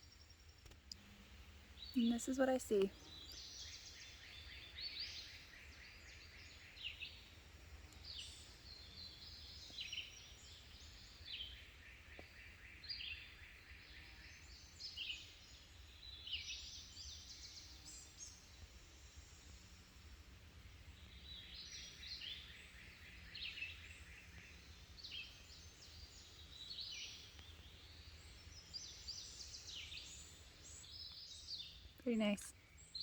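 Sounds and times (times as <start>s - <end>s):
birds singing: 1.6s - 20.2s, 20.8s - 33.0s.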